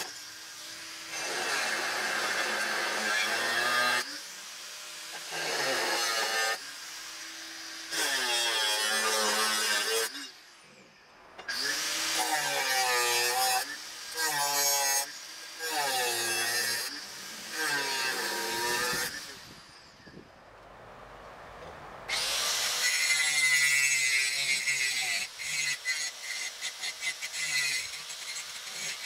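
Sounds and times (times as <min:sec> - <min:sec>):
angle grinder cutting steel: 0:00.0 - 0:20.2, 0:22.1 - 0:29.0.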